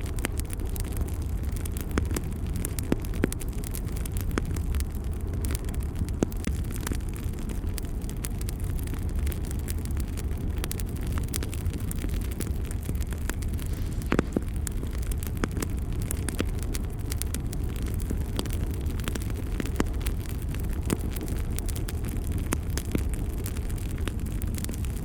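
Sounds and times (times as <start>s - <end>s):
fire crackling in a fireplace: 0.0s - 25.0s.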